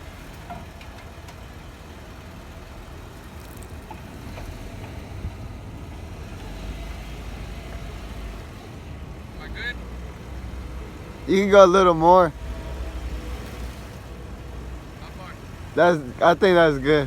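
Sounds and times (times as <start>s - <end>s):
vehicle engine running low speed: 0.0s - 17.0s.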